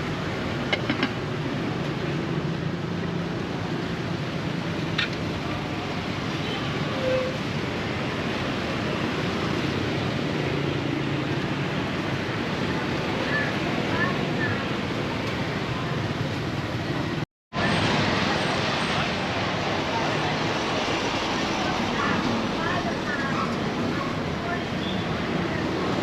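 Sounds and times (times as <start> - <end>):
market background din: 4.8 - 26.0.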